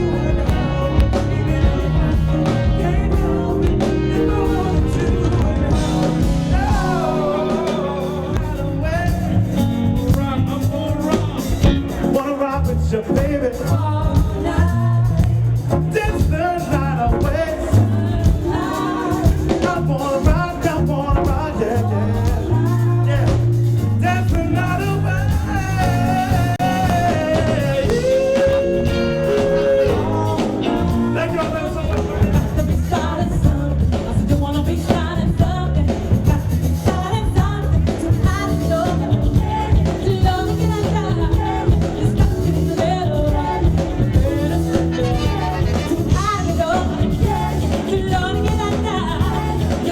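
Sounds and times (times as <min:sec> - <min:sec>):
pop music with singer: 0:00.0 - 0:49.9.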